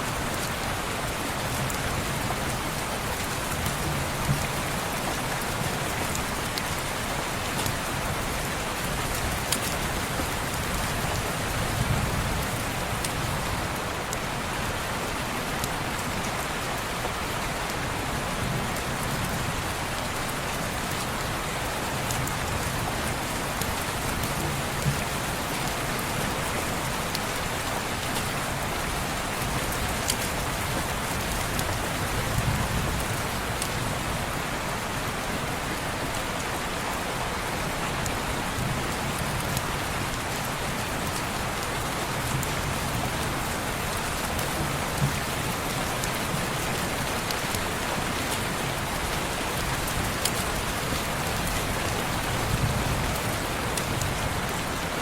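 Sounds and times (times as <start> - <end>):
rain on a window pane: 0.0 - 55.0.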